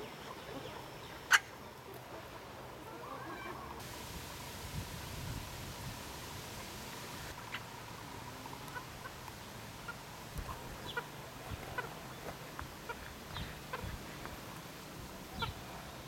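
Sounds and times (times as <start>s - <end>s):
chickens clucking: 0.0s - 3.8s, 7.0s - 16.0s.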